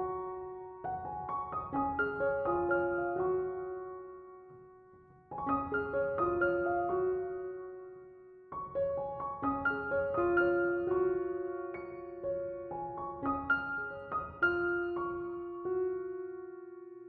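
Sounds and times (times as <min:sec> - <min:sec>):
gentle solo piano: 0:00.0 - 0:17.0.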